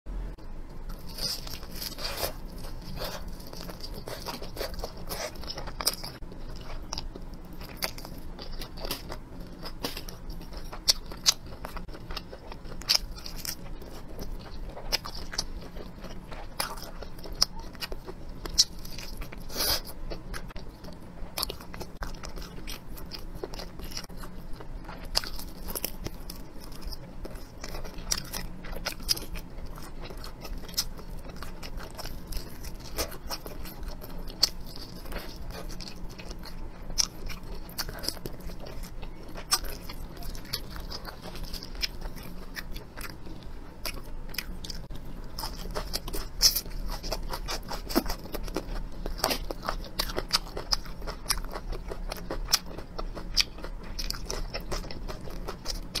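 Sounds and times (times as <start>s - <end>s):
person chewing crunchy food: 0.5s - 56.0s.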